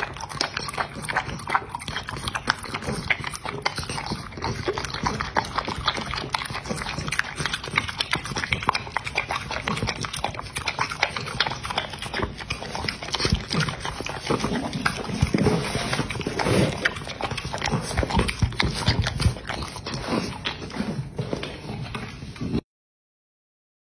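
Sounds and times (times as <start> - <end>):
dog lapping from metal plate: 0.0 - 21.2.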